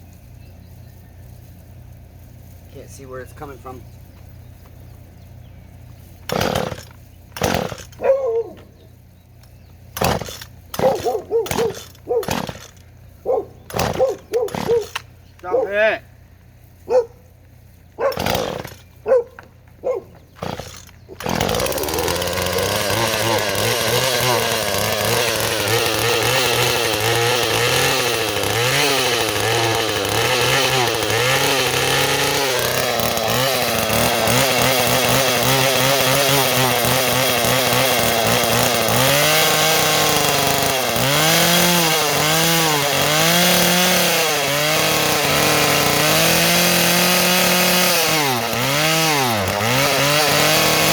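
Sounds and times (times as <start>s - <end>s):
chainsaw running and revving: 6.2s - 8.8s, 9.4s - 16.0s, 17.9s - 50.9s.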